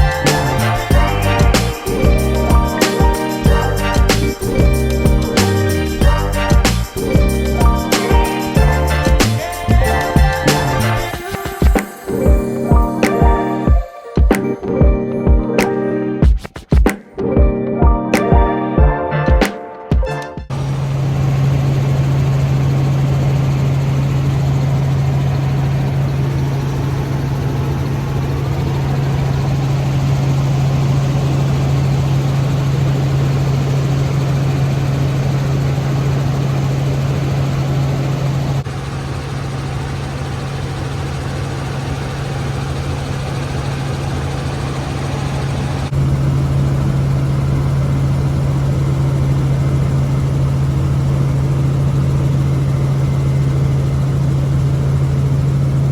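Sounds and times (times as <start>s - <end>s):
helicopter engine and rotor drone: 0.0s - 15.8s, 20.4s - 55.9s.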